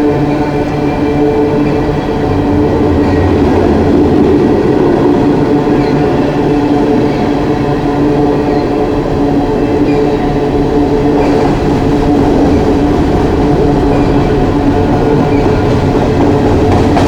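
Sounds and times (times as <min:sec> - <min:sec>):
train cars rumbling on rails: 0:00.0 - 0:17.0.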